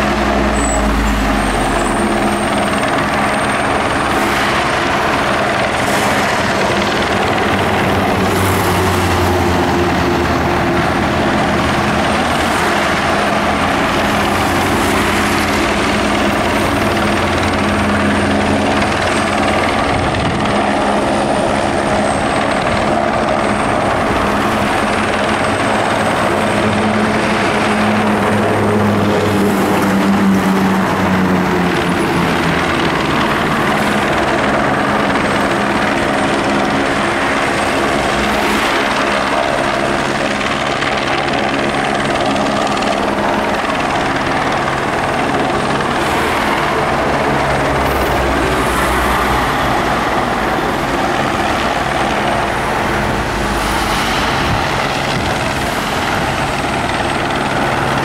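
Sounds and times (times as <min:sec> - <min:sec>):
helicopter rotors beating: 0:00.0 - 0:58.0
high turbine whine: 0:00.0 - 0:58.0.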